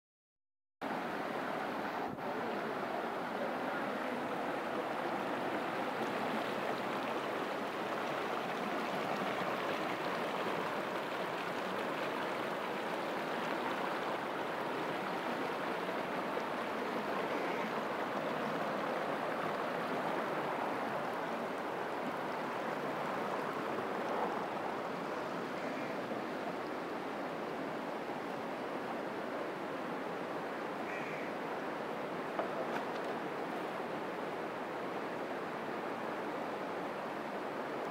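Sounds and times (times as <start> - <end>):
floodwater rushing over a ledge: 0.9 - 37.9.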